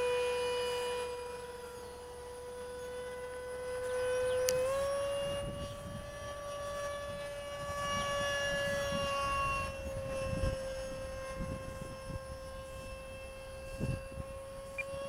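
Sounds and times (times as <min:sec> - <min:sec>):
electric ducted fan whine: 0:00.0 - 0:15.0.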